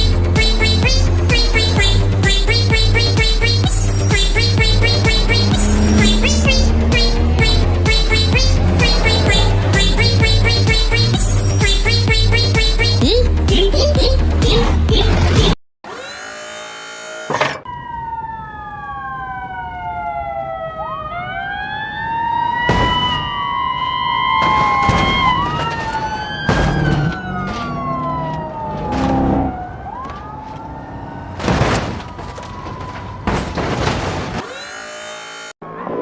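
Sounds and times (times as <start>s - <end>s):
siren wailing: 0.0s - 14.3s, 15.9s - 33.6s, 34.4s - 36.0s.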